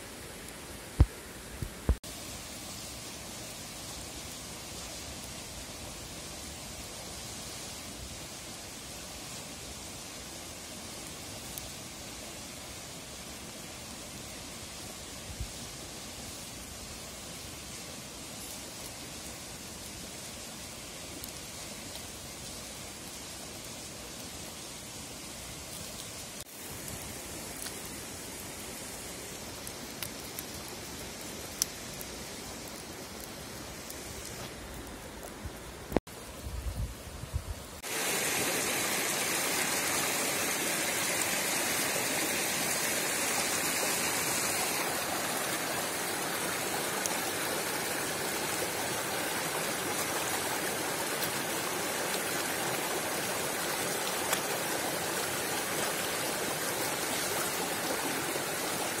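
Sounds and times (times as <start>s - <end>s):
stream running over rocks: 0.0s - 59.0s
wood fire crackling: 0.1s - 59.0s.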